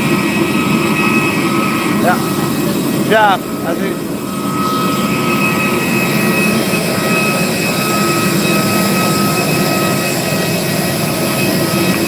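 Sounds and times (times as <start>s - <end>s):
aircraft turbine roar and whine: 0.0s - 12.0s.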